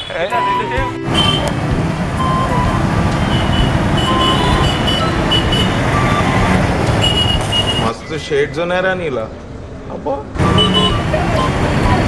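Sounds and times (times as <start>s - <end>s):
passing motor vehicles: 0.0s - 12.0s.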